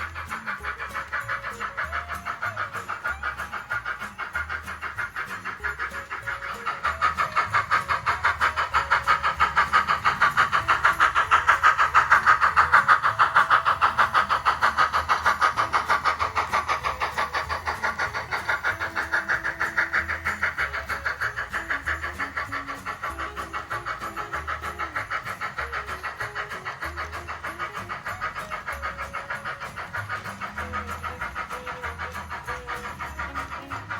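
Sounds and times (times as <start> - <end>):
model train clattering on track: 0.0 - 33.9.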